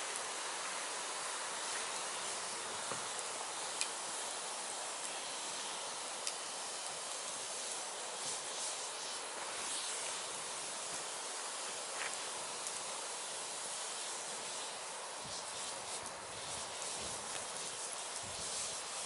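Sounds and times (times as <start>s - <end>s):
crackles and pops of fire: 0.0s - 19.0s
firewood burning: 0.0s - 19.0s.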